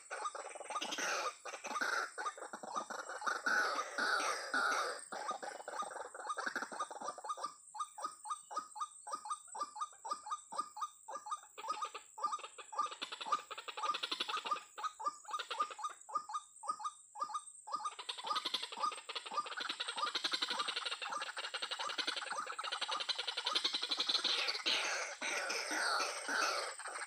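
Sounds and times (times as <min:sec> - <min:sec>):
waterhens croaking and chattering: 0:00.0 - 0:27.0.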